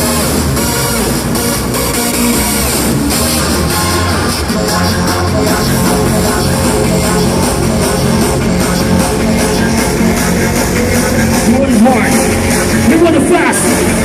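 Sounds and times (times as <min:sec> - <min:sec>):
hardstyle dance music: 0:00.0 - 0:14.0.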